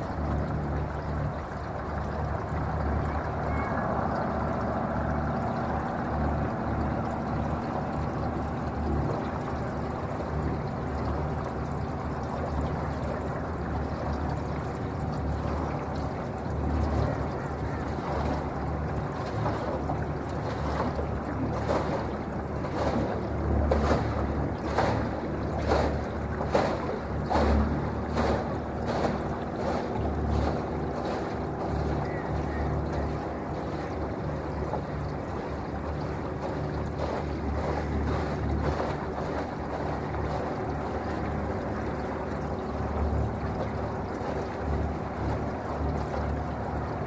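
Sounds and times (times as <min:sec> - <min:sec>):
low rumble of water: 0:00.0 - 0:47.0
waves slapping against hull: 0:00.0 - 0:47.0.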